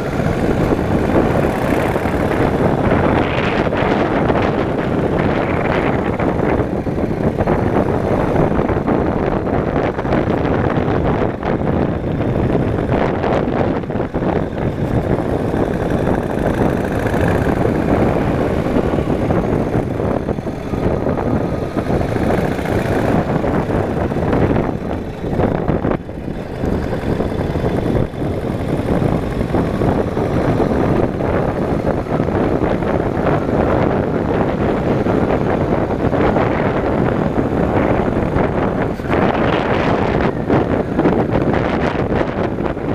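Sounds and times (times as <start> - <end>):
motorcycle engine running: 0.0 - 42.9
wind on microphone: 0.0 - 42.9.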